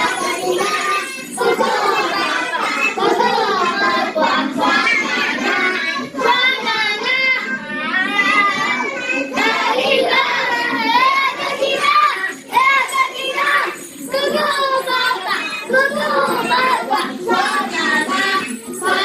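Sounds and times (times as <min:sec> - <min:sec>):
young children singing: 0:00.0 - 0:19.0.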